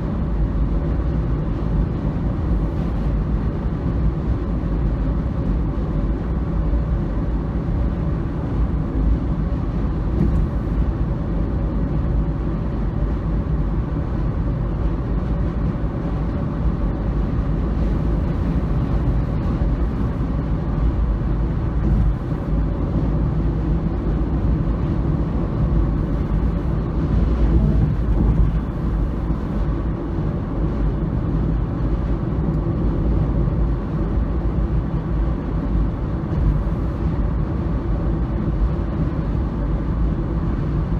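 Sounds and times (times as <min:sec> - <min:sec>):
faint constant hum: 0:00.0 - 0:40.9
vehicle rumbling in motion: 0:00.0 - 0:40.9.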